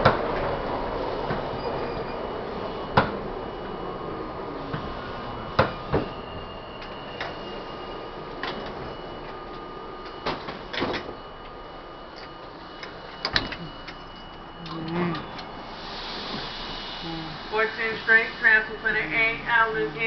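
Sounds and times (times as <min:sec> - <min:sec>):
subway car rumble with whine: 0:00.0 - 0:20.0.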